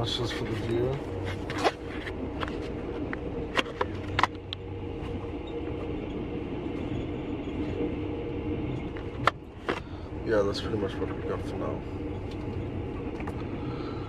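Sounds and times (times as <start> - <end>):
train carriage hum and rumble: 0.0 - 14.0.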